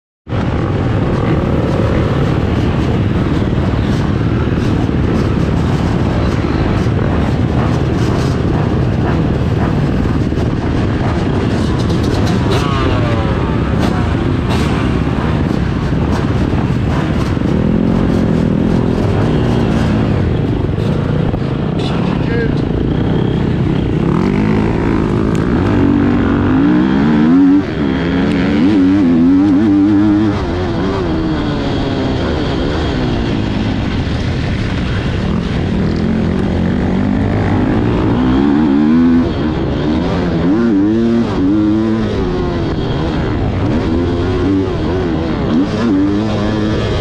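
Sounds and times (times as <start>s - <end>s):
heavy rumble: 0.3s - 47.0s
motorbike engines revving: 0.3s - 47.0s.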